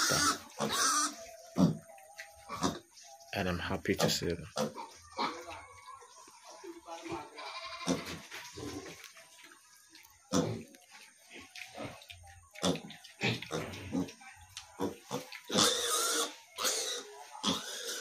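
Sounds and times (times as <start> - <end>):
piglets grunting and squealing: 0.0 - 3.0, 3.9 - 6.0, 7.1 - 9.1, 10.2 - 18.0.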